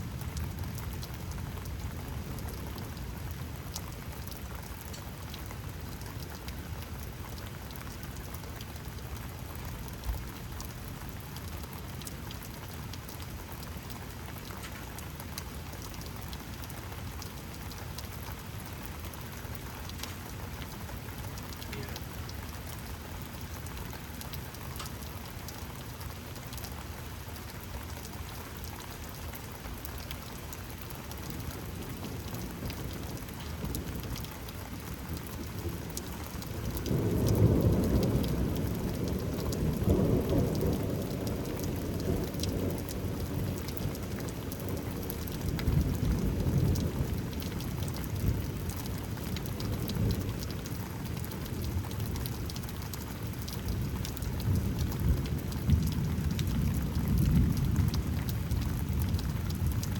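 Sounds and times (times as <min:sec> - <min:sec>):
rain drops ticking on surfaces: 0:00.0 - 0:59.9.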